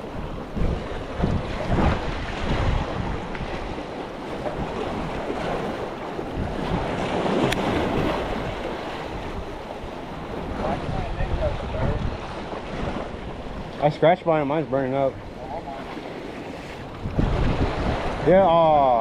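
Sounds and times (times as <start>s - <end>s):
waves washing: 0.0s - 19.0s
wind buffeting microphone: 0.0s - 19.0s.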